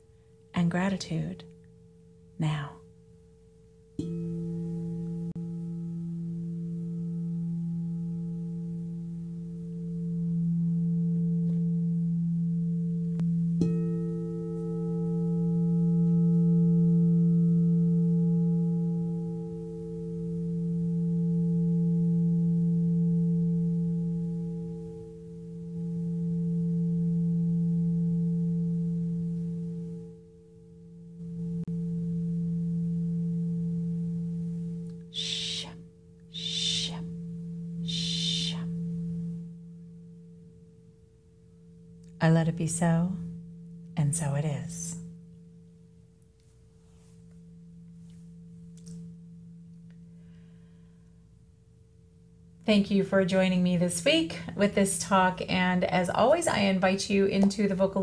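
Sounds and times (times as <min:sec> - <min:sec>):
bowl being struck: 0:01.4 - 0:58.0
singing bowls ringing: 0:01.5 - 0:52.7.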